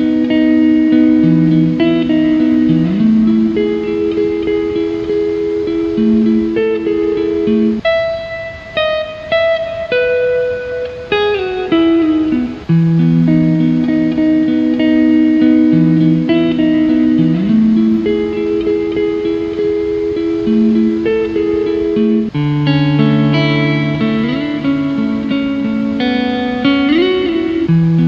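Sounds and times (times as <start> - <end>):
calm guitar music: 0.0 - 28.0.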